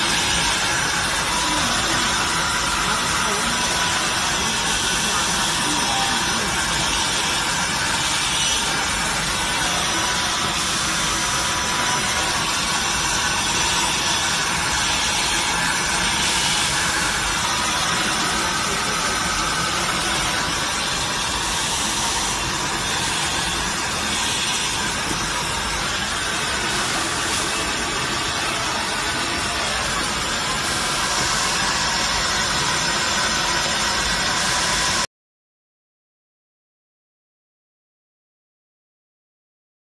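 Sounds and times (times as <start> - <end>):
faint high whine: 0.0 - 35.1
machine hiss: 0.0 - 35.1.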